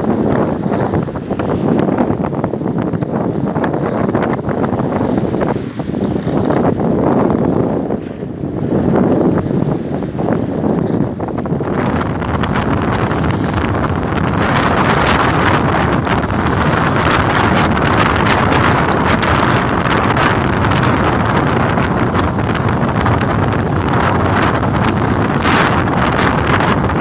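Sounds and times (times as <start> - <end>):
water rushing along hull: 0.0 - 27.0
wind buffeting microphone: 0.0 - 27.0.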